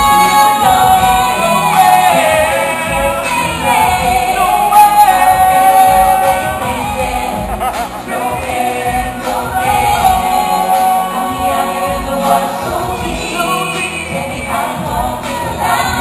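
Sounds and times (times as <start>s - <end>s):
group singing pop song: 0.0s - 16.0s
musical accompaniment: 0.0s - 16.0s.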